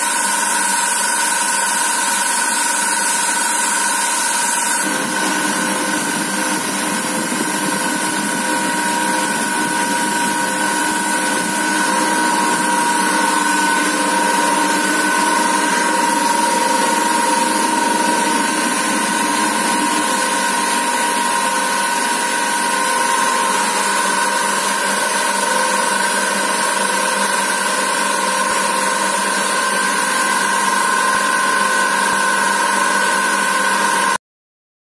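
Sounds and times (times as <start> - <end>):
machine humming with high whine: 0.0 - 34.2.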